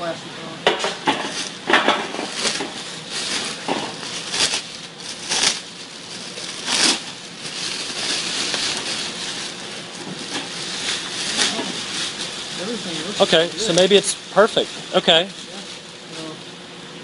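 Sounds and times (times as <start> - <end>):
plastic sheeting crinkling: 1.0 - 16.4.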